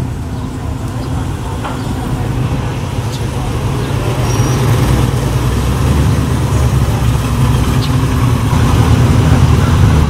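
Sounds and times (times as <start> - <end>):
car engine driving slowly past: 0.0 - 10.0.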